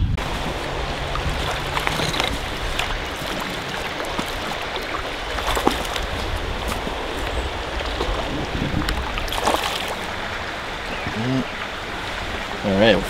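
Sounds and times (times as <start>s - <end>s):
small water splashes: 0.2s - 12.7s
creek running over stones: 0.2s - 13.0s.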